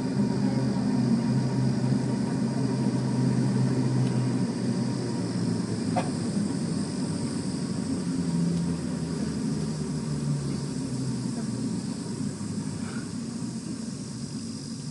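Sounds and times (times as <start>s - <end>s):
cable car running hum: 0.0s - 14.9s.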